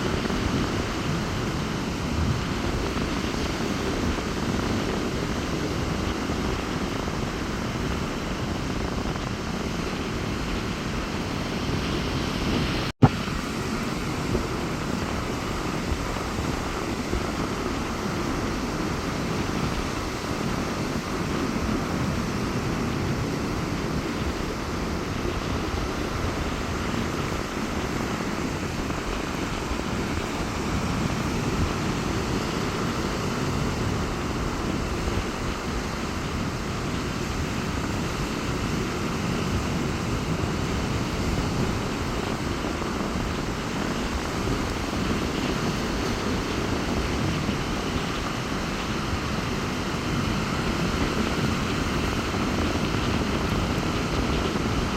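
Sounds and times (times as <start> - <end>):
surf breaking on beach: 0.0 - 54.9
wind on microphone: 0.0 - 54.9.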